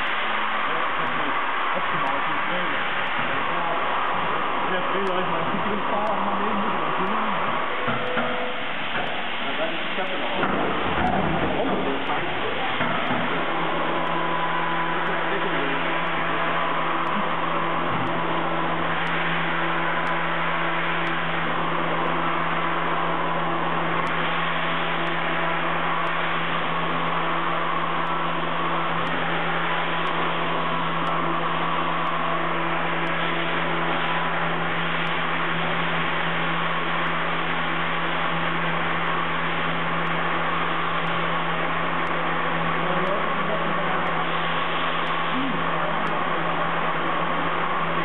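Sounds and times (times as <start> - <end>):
milling machine humming: 0.0 - 48.0.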